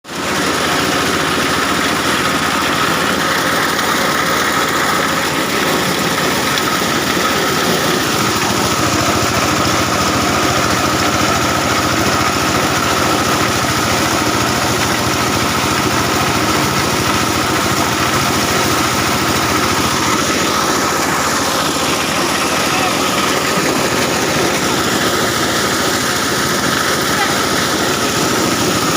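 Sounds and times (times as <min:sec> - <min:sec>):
corn sheller machine drone: 0:00.0 - 0:28.9.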